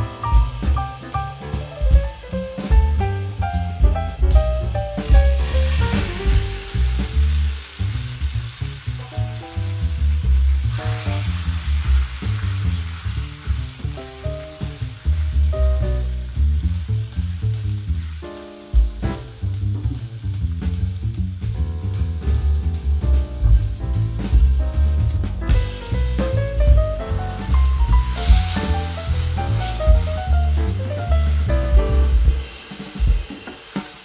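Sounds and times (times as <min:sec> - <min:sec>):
garlic sizzling in oil: 0:04.6 - 0:34.0.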